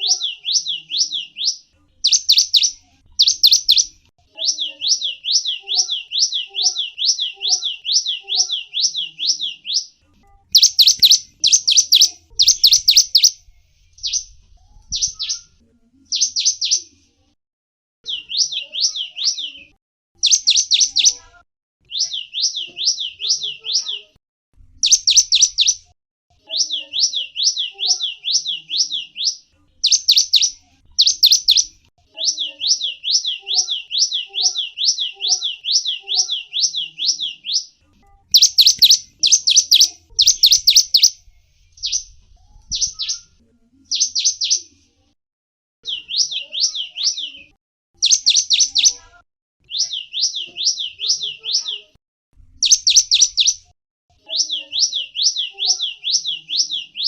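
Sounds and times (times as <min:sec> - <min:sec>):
songbird chirping: 0:00.0 - 0:17.1, 0:18.0 - 0:24.2, 0:24.8 - 0:44.9, 0:45.8 - 0:52.0, 0:52.6 - 0:57.0.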